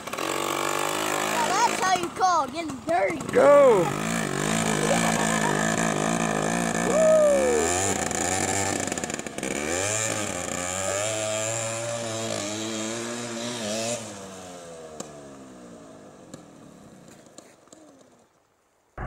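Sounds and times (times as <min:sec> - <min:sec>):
mini bike engine revving: 0:00.0 - 0:18.4.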